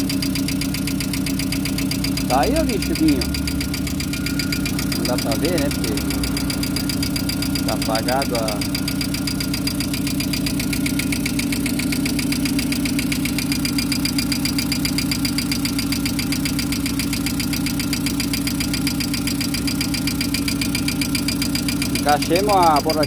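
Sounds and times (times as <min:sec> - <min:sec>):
car engine idling: 0:00.0 - 0:23.0
fast valvetrain tapping: 0:00.0 - 0:23.0.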